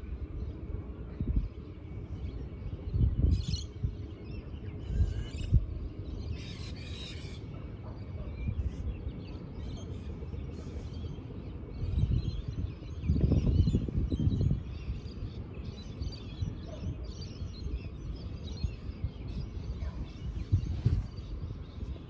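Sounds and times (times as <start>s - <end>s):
wind rumble on microphone: 0.0s - 22.0s
birds calling: 2.4s - 22.0s.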